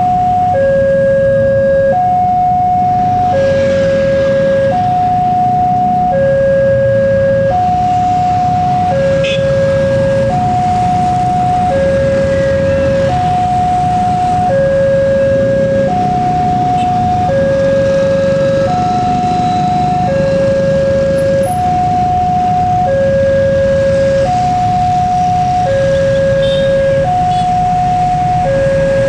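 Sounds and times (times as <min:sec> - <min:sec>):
level crossing alarm two-tone: 0:00.0 - 0:29.0.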